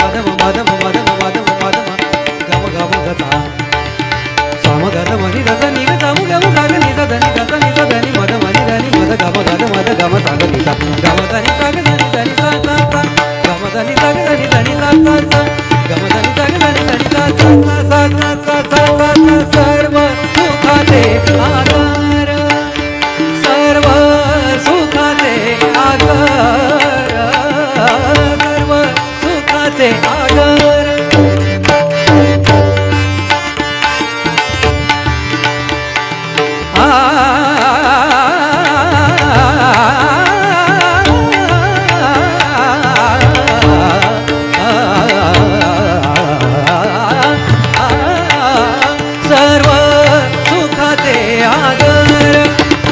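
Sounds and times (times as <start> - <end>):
harmonium melody: 0.0 - 52.9
man singing: 0.0 - 52.9
tabla drumming: 0.0 - 52.9.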